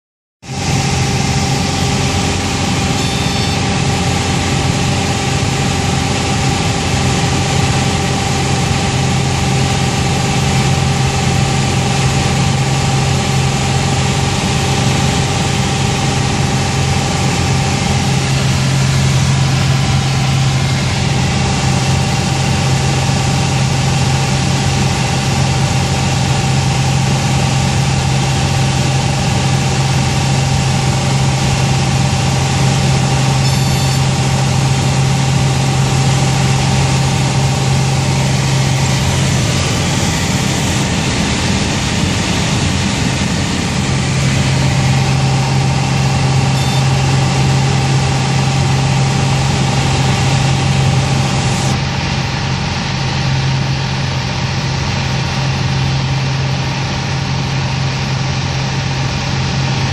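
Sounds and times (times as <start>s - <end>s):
propeller engine droning: 0.4s - 59.9s.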